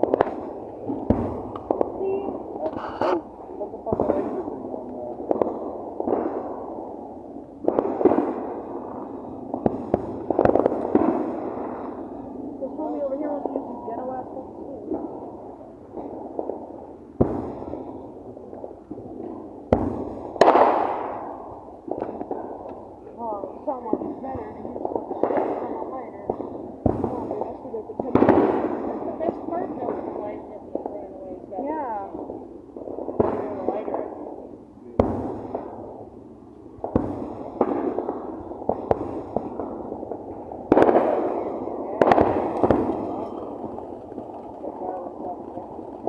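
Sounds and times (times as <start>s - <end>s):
fireworks banging: 0.0s - 46.0s
fireworks crackling hiss: 0.0s - 46.0s.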